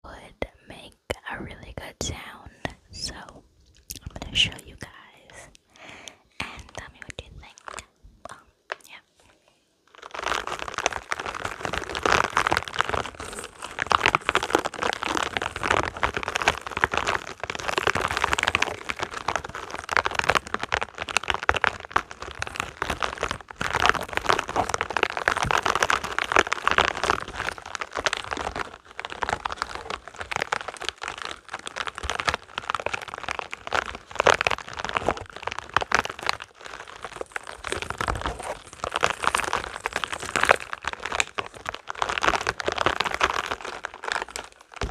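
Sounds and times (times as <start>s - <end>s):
rubber balls crackling and scratching: 1.2s - 44.9s.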